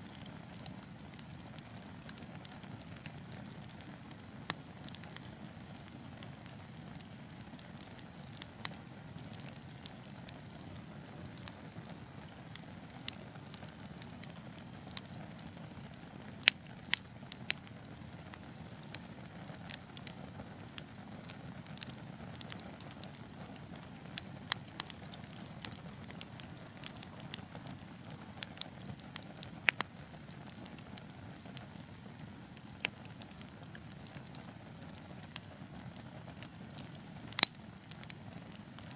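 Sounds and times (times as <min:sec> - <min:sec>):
low rumble of flame: 0:00.0 - 0:38.9
wood fire crackling: 0:00.0 - 0:38.9
fire pops and snaps: 0:01.9 - 0:20.9, 0:21.8 - 0:31.5, 0:32.1 - 0:38.9.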